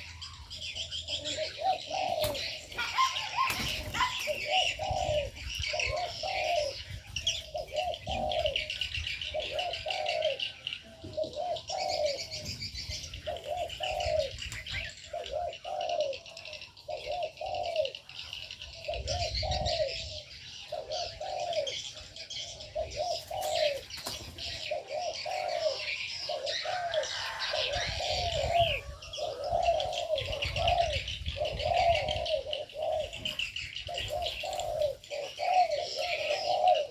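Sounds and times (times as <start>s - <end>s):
doves cooing: 0.0s - 36.9s
small birds chirping: 0.0s - 36.9s.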